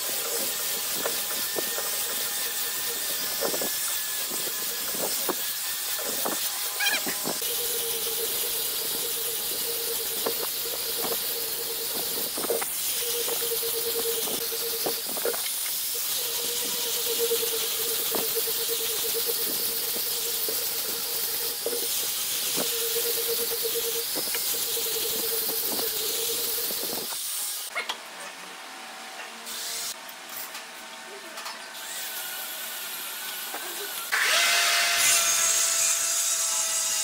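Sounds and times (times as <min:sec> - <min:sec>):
angle grinder sanding wood: 0:00.0 - 0:27.7, 0:31.8 - 0:37.0.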